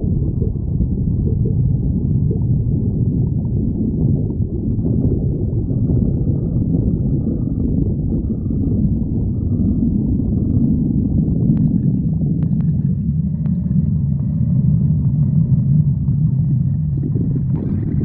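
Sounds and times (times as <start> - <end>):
stomach growling: 0.0 - 18.0.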